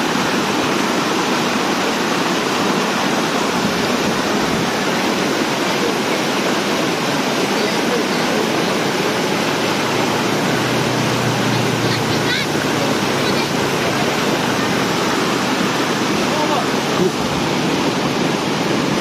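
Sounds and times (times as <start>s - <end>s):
water rushing over dam: 0.0s - 19.0s.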